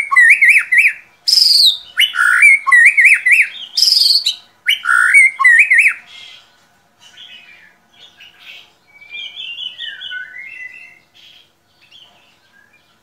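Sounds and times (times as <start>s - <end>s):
songbird calling: 0.0s - 13.0s.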